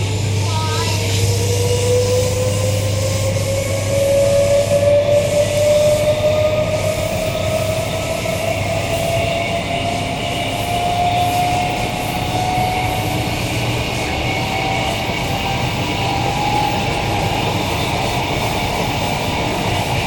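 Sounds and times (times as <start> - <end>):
electric train wheels rumbling: 0.0 - 20.0
train whine: 0.0 - 20.0.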